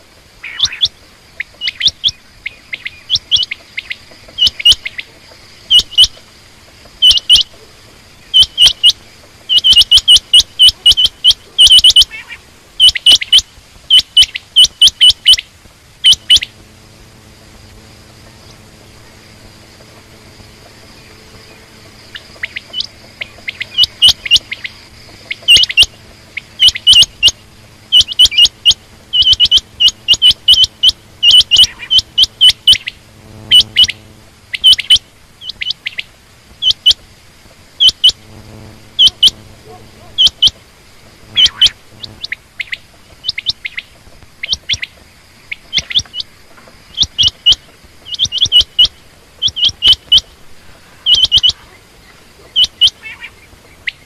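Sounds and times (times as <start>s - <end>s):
quail chirping: 0.4s - 16.6s, 17.4s - 37.0s, 37.8s - 54.0s.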